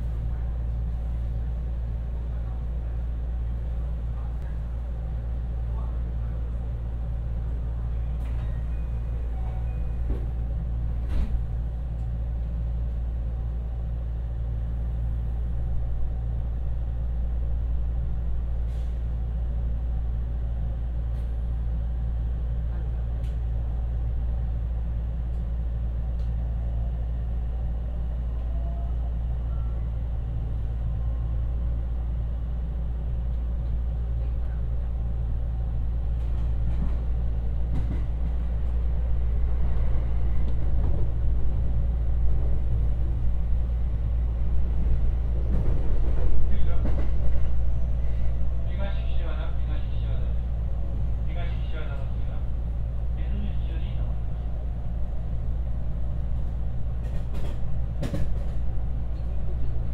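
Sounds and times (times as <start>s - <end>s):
electric train hum: 0.0s - 59.9s.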